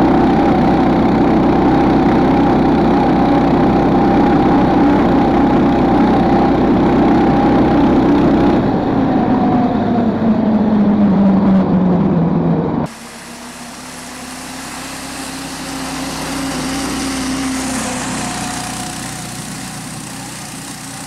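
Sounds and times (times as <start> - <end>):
engine running hard: 0.0 - 21.0.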